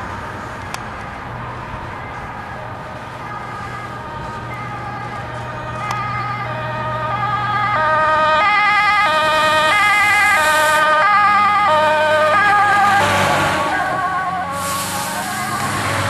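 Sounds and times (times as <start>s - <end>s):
fire engine two-tone siren: 0.0s - 16.0s.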